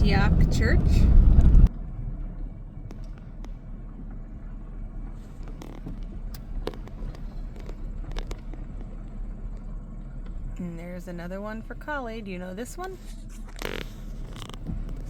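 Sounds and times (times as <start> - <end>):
car road and engine rumble: 0.0 - 15.0
gravel ticks: 0.0 - 15.0.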